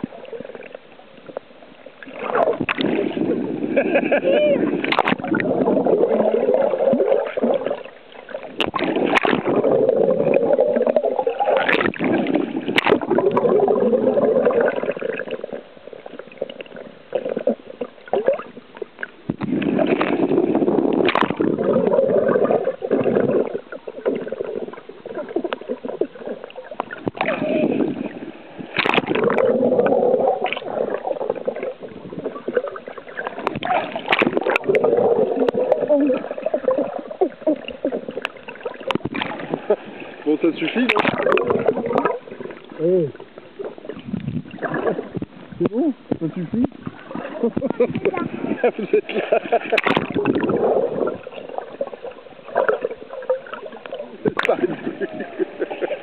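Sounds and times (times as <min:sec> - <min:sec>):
muffled underwater rushing water: 0:00.0 - 0:56.0
bubbles from swimmers exhaling: 0:02.0 - 0:18.6, 0:19.4 - 0:40.1, 0:40.8 - 0:43.2, 0:43.8 - 0:45.2, 0:46.3 - 0:56.0.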